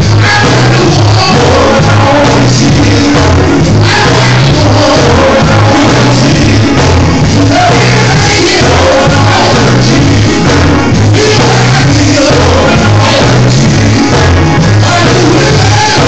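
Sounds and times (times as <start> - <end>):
gospel group singing with band: 0.0 - 16.0
pulsing bass line: 0.0 - 16.0.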